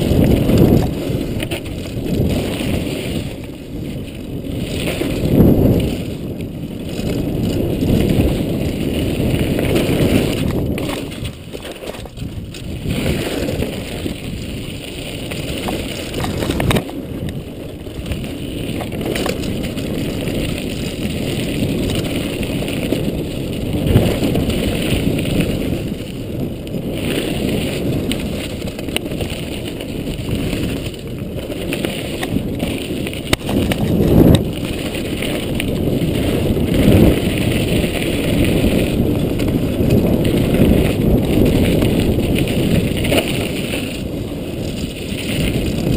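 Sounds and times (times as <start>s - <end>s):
bike knocking and rattling: 0.0s - 45.9s
tyres rumbling over dirt: 0.0s - 45.9s
wind: 0.0s - 45.9s.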